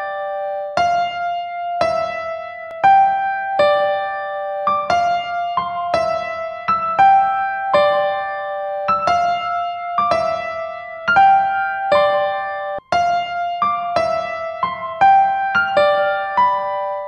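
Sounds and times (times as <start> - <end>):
slow keyboard melody: 0.0 - 17.0.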